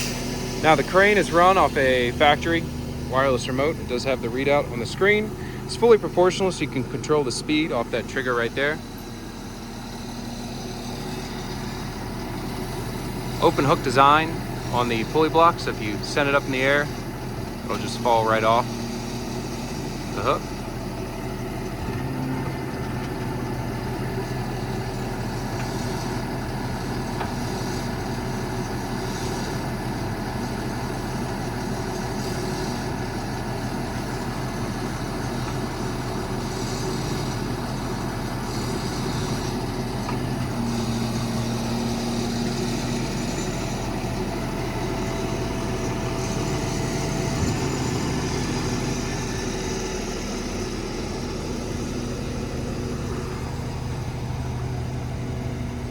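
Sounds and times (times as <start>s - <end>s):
diesel engine running steadily: 0.0s - 55.9s
high hydraulic whine: 0.0s - 55.9s.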